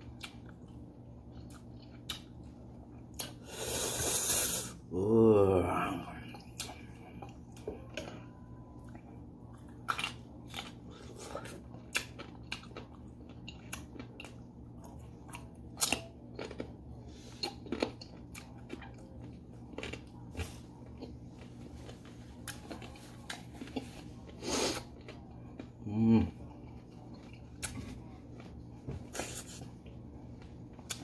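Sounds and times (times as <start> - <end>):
person chewing crisp mango: 0.0 - 31.0.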